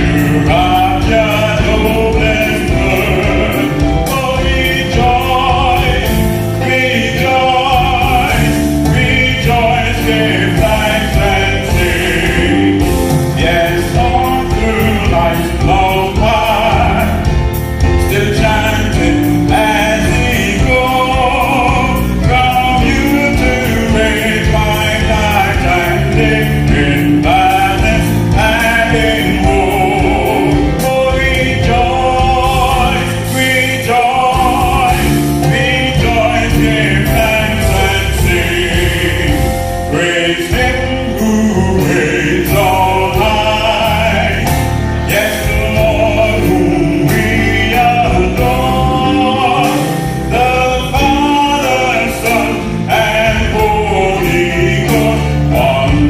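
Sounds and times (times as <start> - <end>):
accompaniment with steady beat: 0.0 - 56.0
man singing gospel song: 0.0 - 56.0.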